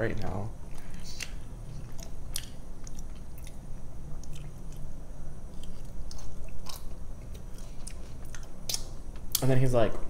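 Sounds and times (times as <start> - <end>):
chewing and crunching chips: 0.2 - 9.5.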